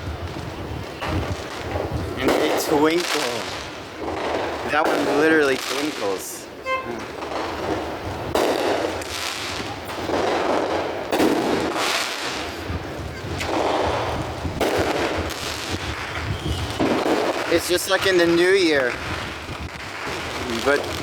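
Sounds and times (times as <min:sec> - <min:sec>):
fireworks booming: 0:00.0 - 0:21.0.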